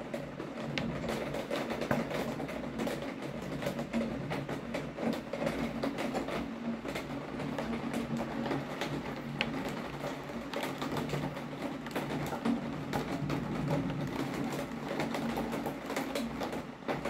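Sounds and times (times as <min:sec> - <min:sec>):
raindrops tapping a hard surface: 0:00.0 - 0:17.0.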